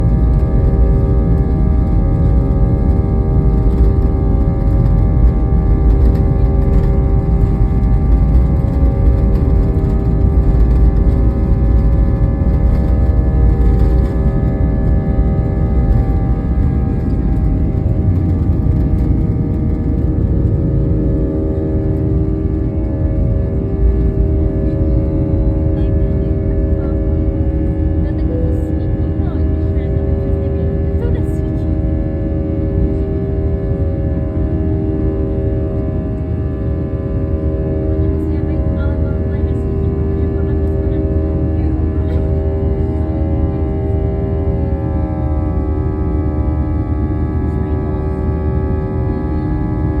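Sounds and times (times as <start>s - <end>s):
jet engine whine: 0.0s - 50.0s
jet engines deep rumble: 0.0s - 50.0s.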